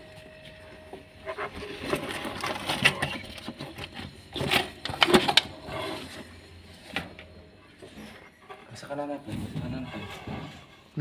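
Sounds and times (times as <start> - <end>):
objects clattering and scraping: 0.2 - 11.0.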